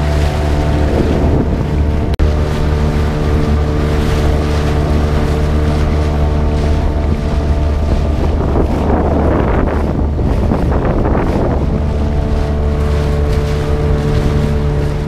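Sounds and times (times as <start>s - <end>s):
boat engine running: 0.0s - 15.0s
water rushing: 0.0s - 15.0s
wind buffeting microphone: 0.0s - 15.0s.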